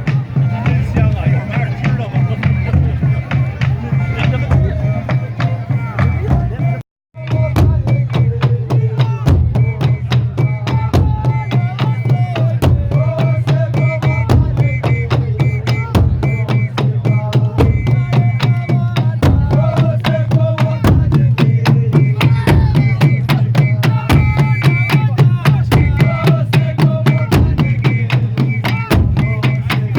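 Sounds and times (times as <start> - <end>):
quick drum beat: 0.0 - 29.9.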